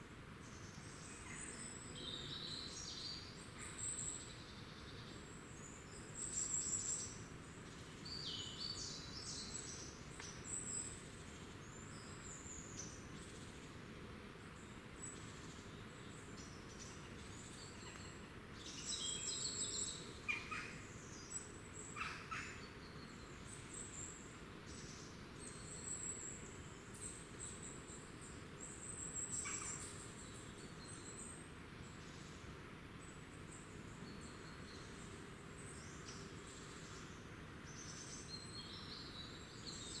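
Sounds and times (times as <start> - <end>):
low background hiss: 0.0 - 40.0
songbirds calling: 0.4 - 40.0.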